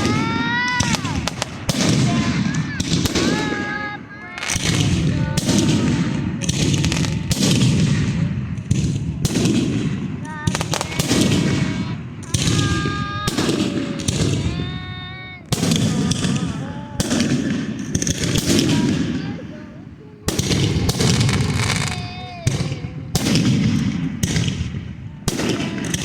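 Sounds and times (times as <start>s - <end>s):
fireworks banging: 0.0s - 26.0s.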